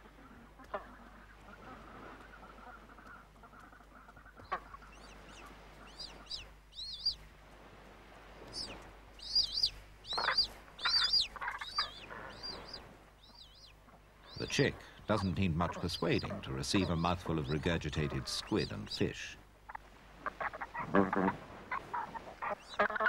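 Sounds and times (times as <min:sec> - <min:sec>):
penguin chick peeping: 0:00.2 - 0:07.2, 0:08.4 - 0:18.9, 0:19.7 - 0:23.0.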